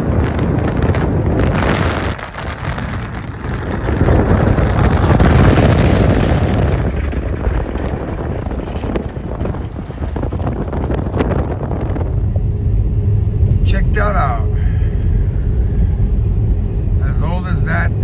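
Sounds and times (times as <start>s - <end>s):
blizzard wind buffeting microphone: 0.0s - 18.0s.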